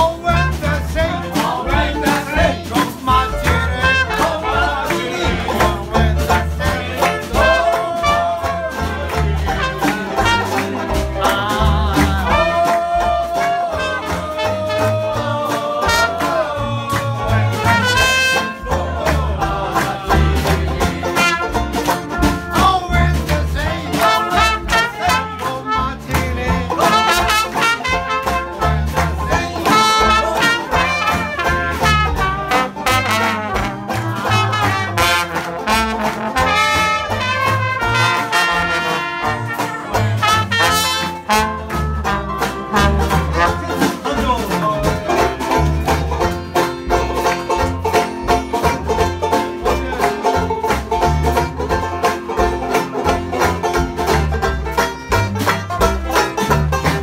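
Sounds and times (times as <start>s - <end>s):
drums beat: 0.0s - 57.0s
jazz band playing swing: 0.0s - 57.0s
strummed banjo: 0.0s - 57.0s
trombone: 0.0s - 57.0s
trumpet: 2.4s - 11.5s, 12.1s - 16.6s, 17.2s - 18.9s, 20.2s - 57.0s.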